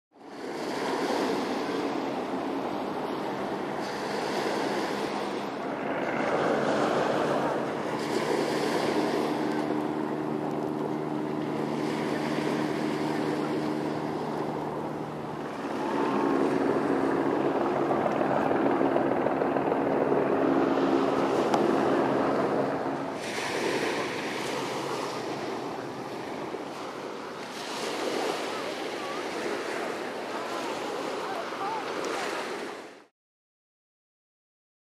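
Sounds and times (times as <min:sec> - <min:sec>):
wind: 0:00.1 - 0:33.1
motorboat engines humming: 0:00.4 - 0:32.6.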